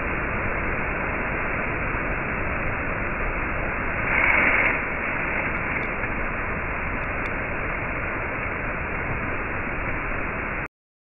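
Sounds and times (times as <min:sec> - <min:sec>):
waterfall rushing over rock: 0:00.0 - 0:10.7.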